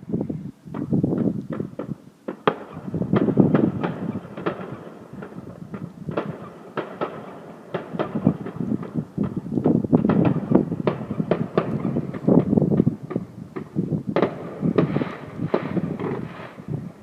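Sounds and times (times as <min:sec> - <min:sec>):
fireworks sharp bangs: 0:00.7 - 0:17.0
rumble of explosions: 0:00.7 - 0:17.0.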